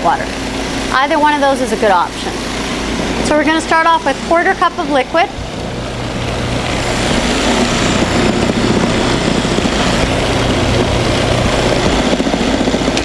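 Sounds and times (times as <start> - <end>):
food processor running: 0.0 - 13.0.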